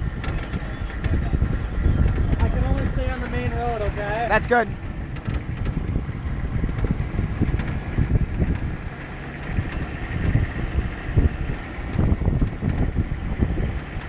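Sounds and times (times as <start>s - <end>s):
vehicle bumps and jolts: 0.0s - 14.0s
vehicle engine and road rumble: 0.0s - 14.0s
wind buffeting microphone: 0.0s - 14.0s.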